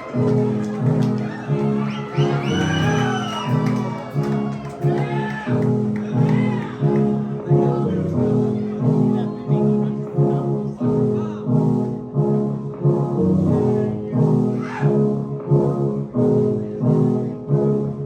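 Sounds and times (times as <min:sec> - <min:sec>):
keyboard samplers: 0:00.0 - 0:18.0
upright bass: 0:00.0 - 0:18.0.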